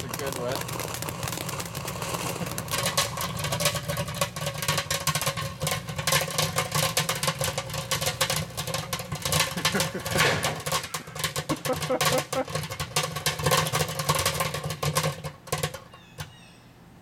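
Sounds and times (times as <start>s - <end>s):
fireworks crackling and popping: 0.0s - 15.9s.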